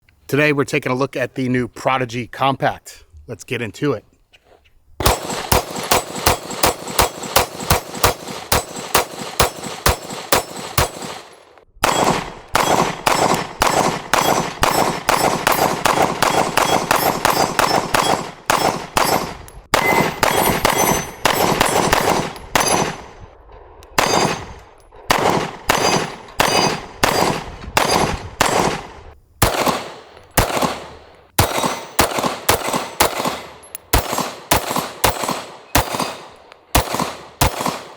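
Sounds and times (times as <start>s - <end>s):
pistol shots: 5.0s - 23.2s, 23.9s - 37.9s.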